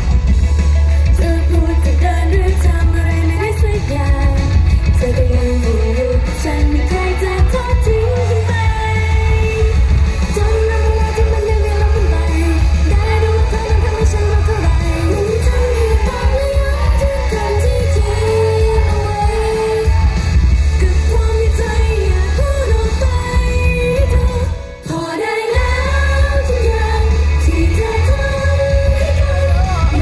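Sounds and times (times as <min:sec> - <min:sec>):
loud pop music with heavy bass: 0:00.0 - 0:30.0
woman singing: 0:00.0 - 0:30.0.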